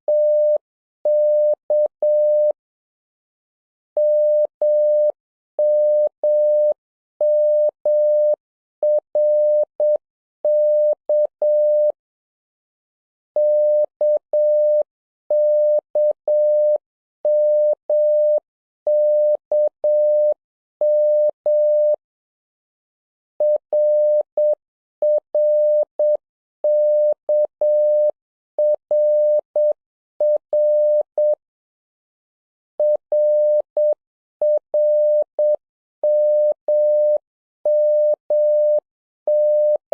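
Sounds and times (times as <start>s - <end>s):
morse code beeps: 0.1s - 2.5s, 4.0s - 11.9s, 13.4s - 22.0s, 23.4s - 31.4s, 32.8s - 39.9s.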